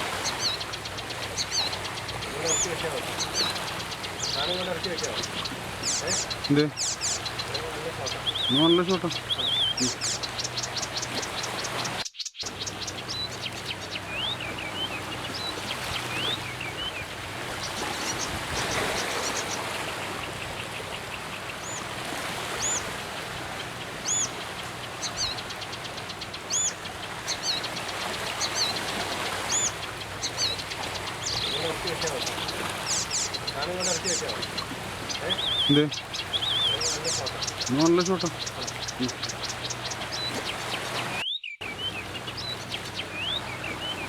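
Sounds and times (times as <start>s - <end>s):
birds chirping and singing: 0.0s - 44.0s
outdoor background hiss: 0.0s - 44.0s.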